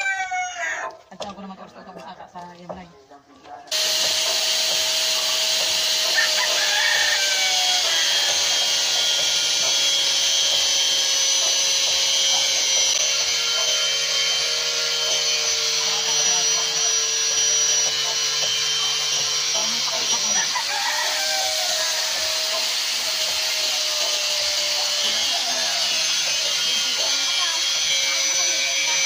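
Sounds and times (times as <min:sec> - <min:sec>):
electric power sander running: 0:03.7 - 0:29.0.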